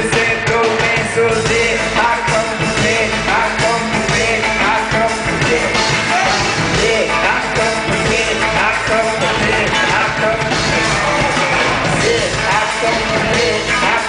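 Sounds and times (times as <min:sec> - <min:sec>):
live hip-hop over loud speakers: 0:00.0 - 0:14.0
person rapping: 0:00.0 - 0:14.0.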